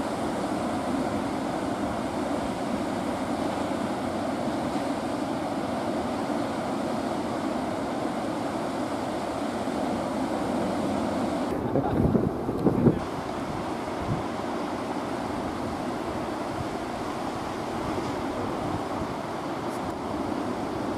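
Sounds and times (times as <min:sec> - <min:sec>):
ocean surf breaking: 0:00.0 - 0:20.9
wind: 0:00.0 - 0:20.9.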